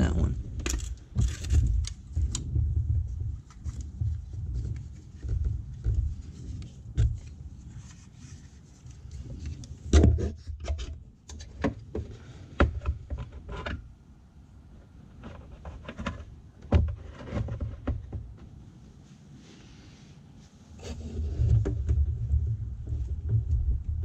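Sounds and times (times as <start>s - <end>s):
hands rubbing and bumping plastic: 0.0s - 13.8s, 15.1s - 18.7s, 20.7s - 24.0s.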